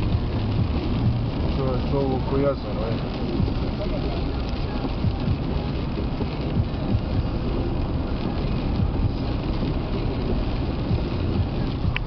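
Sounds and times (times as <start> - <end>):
car engine and tyres on wet road: 0.0 - 12.0.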